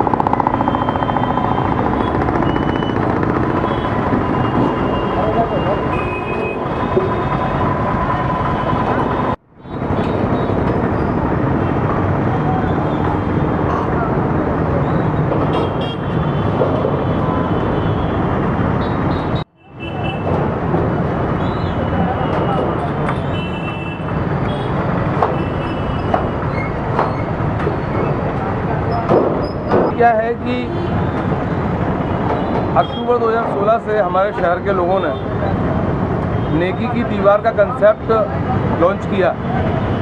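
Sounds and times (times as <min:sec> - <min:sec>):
roadside traffic noise: 0:00.0 - 0:40.0.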